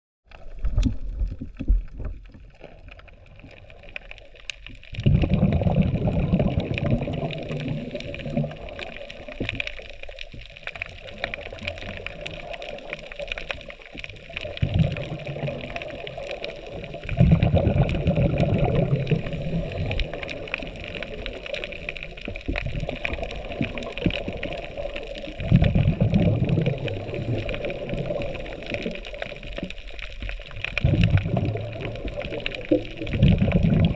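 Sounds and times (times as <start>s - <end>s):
low bubbling bursts: 0.3s - 33.9s
underwater water gurgling: 0.3s - 33.9s.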